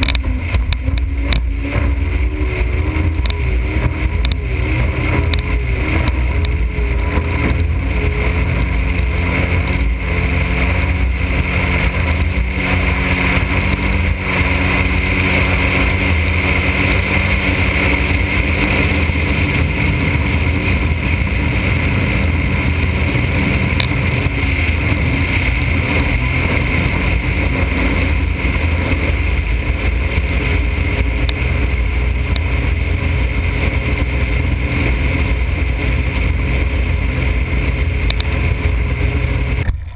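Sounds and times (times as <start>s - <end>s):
motorboat engine running: 0.0s - 39.9s
wind and water rush: 0.0s - 39.9s.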